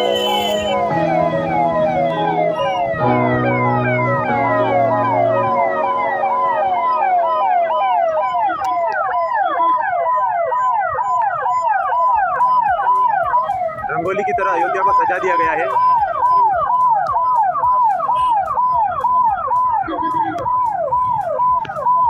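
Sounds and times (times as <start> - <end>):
police sirens yelping: 0.0 - 22.0.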